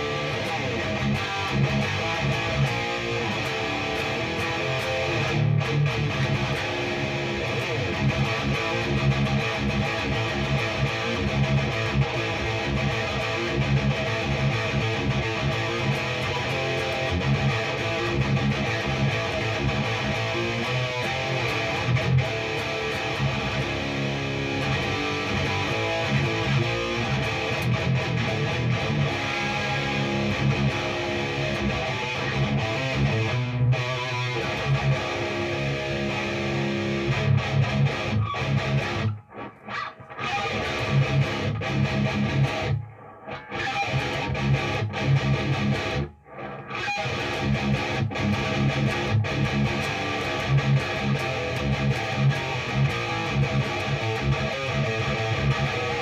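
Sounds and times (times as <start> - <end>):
distorted electric guitar riffing: 0.0 - 56.0.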